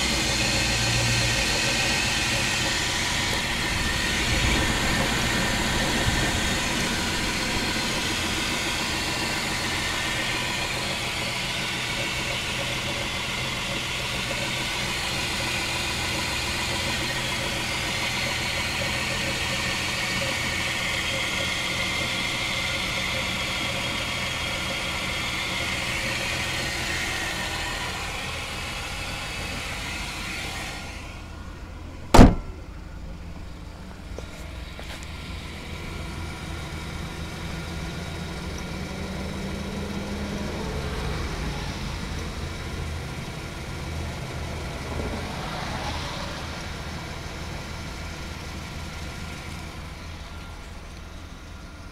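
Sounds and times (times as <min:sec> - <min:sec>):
car engine knocking: 0:00.0 - 0:51.9.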